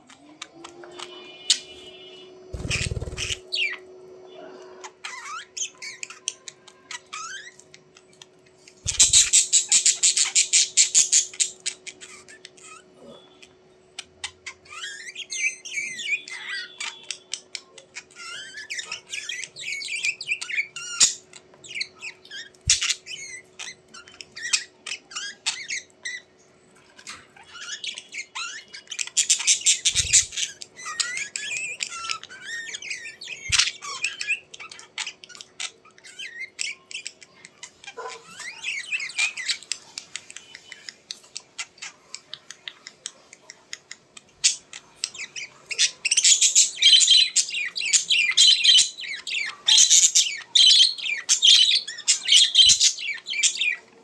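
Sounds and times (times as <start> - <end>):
birds squawking and chirping: 0.0 - 54.0
birds harsh rapid chattering: 2.5 - 3.9, 4.9 - 54.0.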